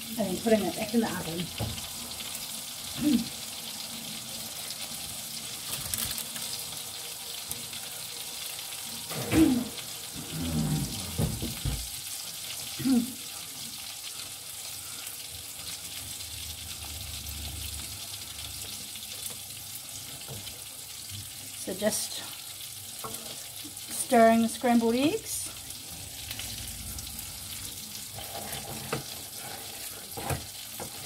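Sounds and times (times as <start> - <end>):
mushrooms sizzling in a pan: 0.0 - 31.0.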